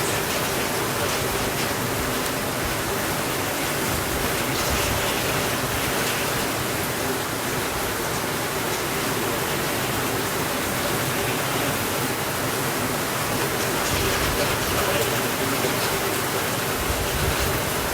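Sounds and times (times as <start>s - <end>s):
steady rain hiss: 0.0s - 17.9s.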